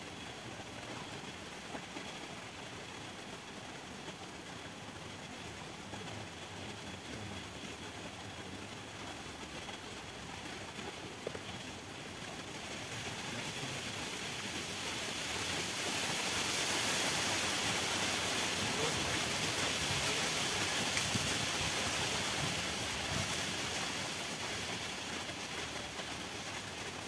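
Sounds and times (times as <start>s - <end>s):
steady rushing hiss: 0.0s - 27.0s.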